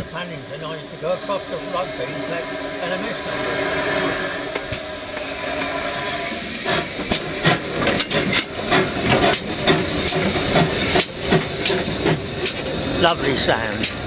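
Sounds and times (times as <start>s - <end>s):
locomotive exhaust beats: 0.0s - 14.0s
steam locomotive hissing: 0.0s - 14.0s.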